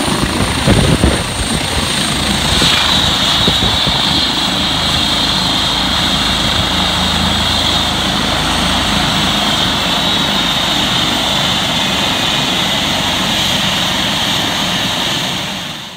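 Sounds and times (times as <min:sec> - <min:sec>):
helicopter rotor beat: 0:00.0 - 0:15.9
helicopter turbine whine: 0:00.0 - 0:15.9.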